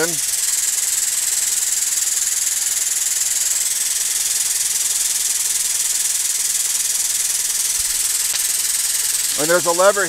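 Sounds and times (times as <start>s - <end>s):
air pump hissing: 0.0s - 10.0s.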